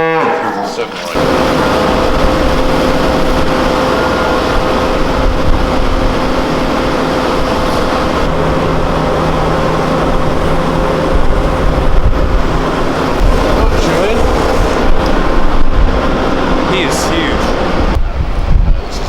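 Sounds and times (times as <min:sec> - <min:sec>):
machine droning hum: 0:00.0 - 0:19.0.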